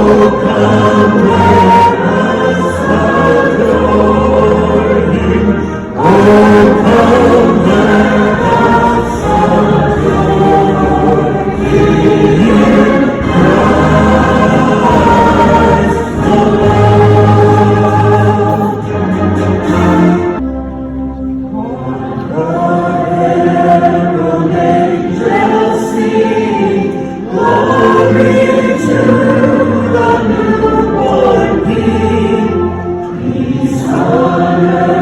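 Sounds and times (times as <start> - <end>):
crowd singing a carol: 0.0 - 35.0.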